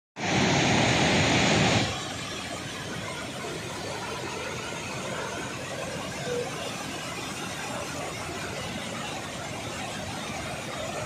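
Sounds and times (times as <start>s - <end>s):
floodwater rushing over rocks: 0.2s - 11.0s.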